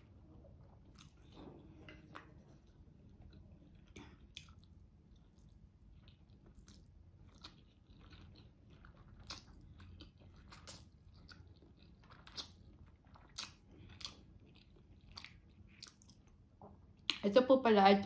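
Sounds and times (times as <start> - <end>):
person chewing food: 0.4 - 17.2.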